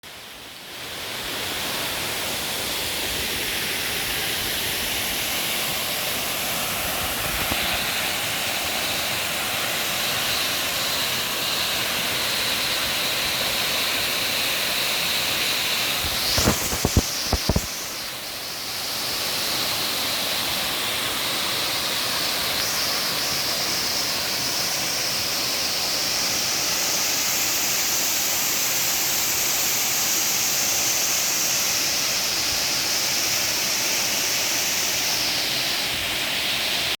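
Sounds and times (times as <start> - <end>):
waterfall rushing: 0.8 - 37.0.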